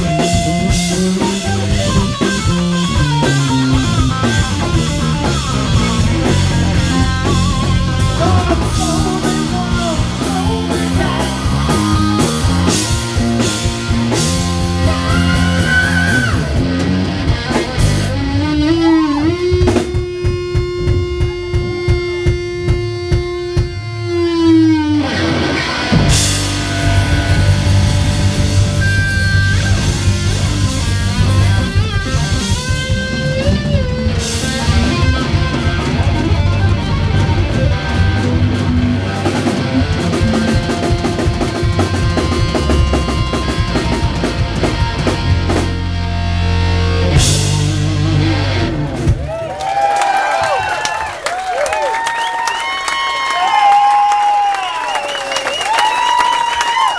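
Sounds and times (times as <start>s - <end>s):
distorted electric guitar: 0.0s - 49.4s
live rock band playing: 0.0s - 56.9s.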